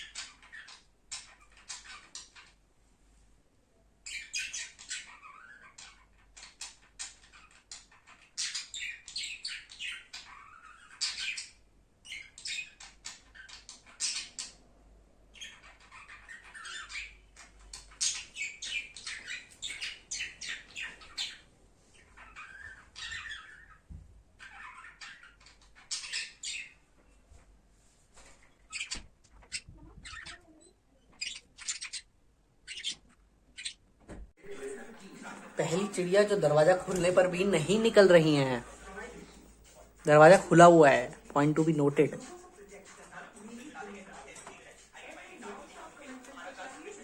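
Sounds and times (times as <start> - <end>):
budgerigars chirping: 0.0 - 2.6, 4.1 - 14.6, 15.3 - 26.9, 28.4 - 33.8, 34.5 - 44.1.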